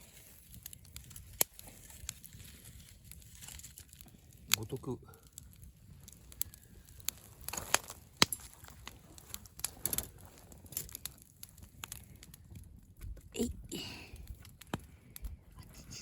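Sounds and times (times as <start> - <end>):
wood campfire crackling: 0.0 - 16.0.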